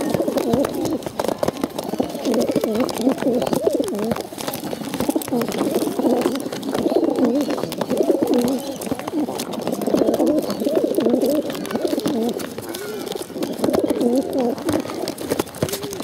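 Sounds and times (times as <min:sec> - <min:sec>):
beaks pecking plastic bottle: 0:00.0 - 0:16.0
pigeons cooing: 0:00.0 - 0:16.0.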